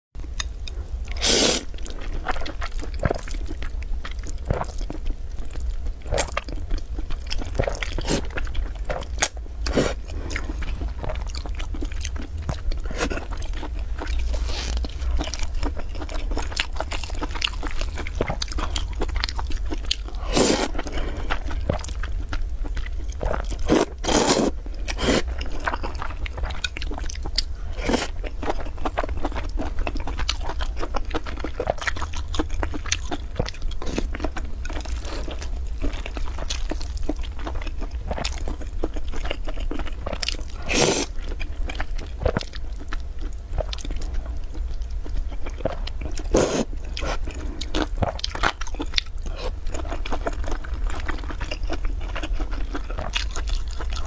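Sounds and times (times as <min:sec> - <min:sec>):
steady low hum: 0:00.2 - 0:54.0
chewing and biting: 0:06.2 - 0:54.0.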